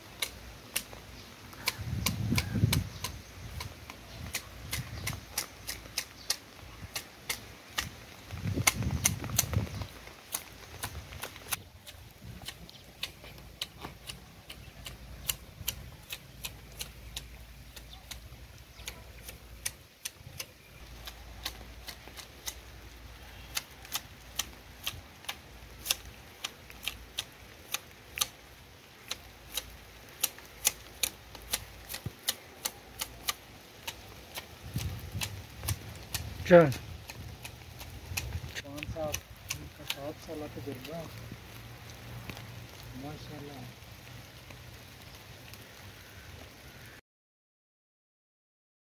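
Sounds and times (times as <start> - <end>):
hedge shears clicking: 0.2 - 22.7, 23.5 - 41.1.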